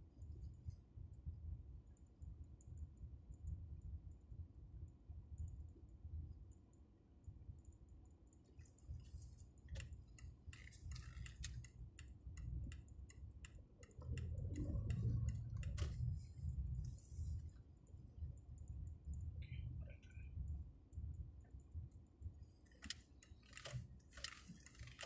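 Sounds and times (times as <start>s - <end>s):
light clicks and rattles: 0.0s - 25.0s.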